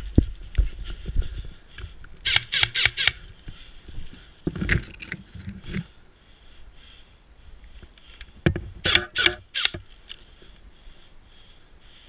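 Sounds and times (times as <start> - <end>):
grass and bushes rustling: 0.0 - 12.0.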